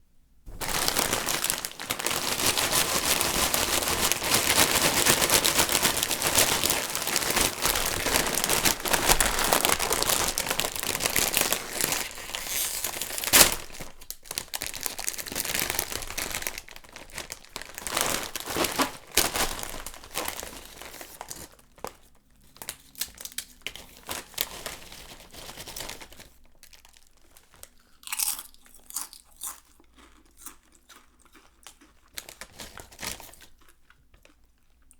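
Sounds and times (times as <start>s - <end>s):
chip bag crinkling: 0.5s - 34.9s.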